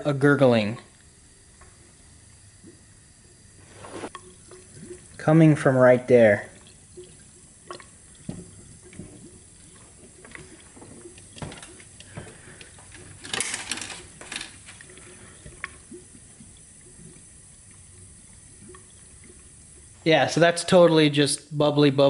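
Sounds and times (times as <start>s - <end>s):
coolant gurgling and bubbling: 0.0s - 21.8s.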